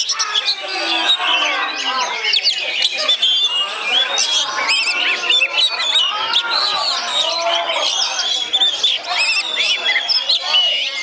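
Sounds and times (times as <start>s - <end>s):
birds singing in chorus: 0.0s - 11.0s
people shouting: 0.1s - 11.0s.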